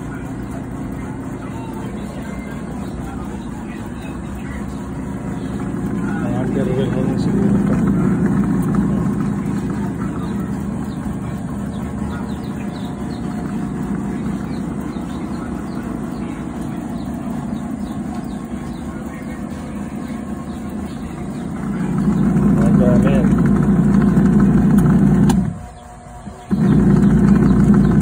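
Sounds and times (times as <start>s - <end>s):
washing machine motor humming: 0.0s - 28.0s.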